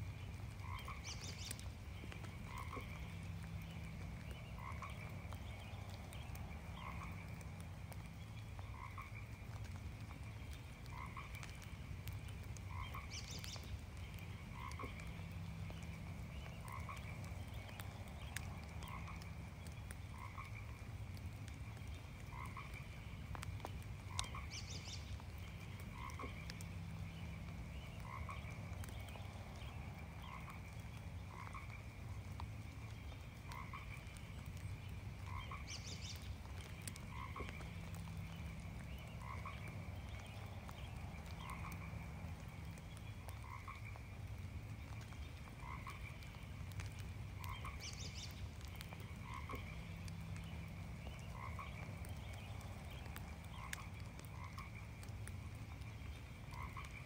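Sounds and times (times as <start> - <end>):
light rain hiss: 0.0 - 57.0
frog croaking: 0.5 - 9.8, 10.8 - 21.2, 22.2 - 32.5, 33.1 - 57.0.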